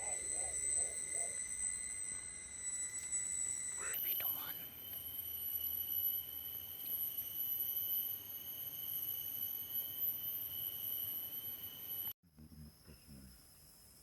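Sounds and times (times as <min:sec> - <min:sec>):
insects droning whine: 0:00.0 - 0:14.0.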